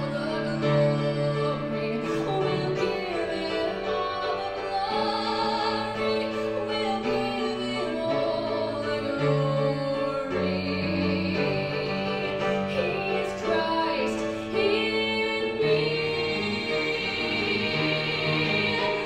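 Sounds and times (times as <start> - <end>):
cello: 0.0 - 19.0
person singing: 0.0 - 19.0
piano: 0.0 - 19.0.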